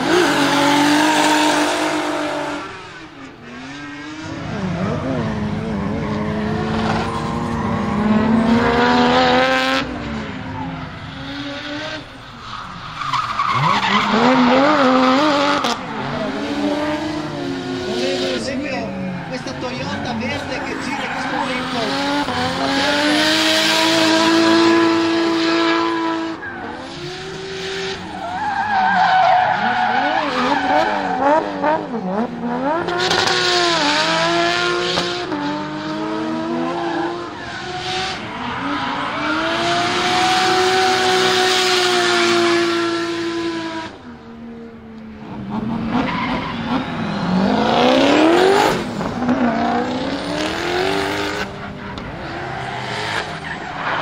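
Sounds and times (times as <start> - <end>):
car engines revving high: 0.0 - 54.0.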